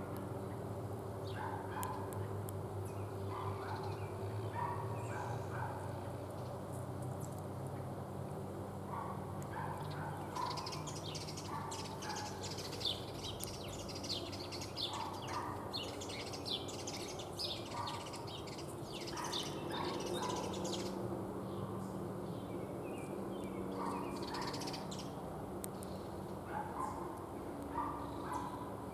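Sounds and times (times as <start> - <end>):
songbirds chirping: 0.0 - 28.9.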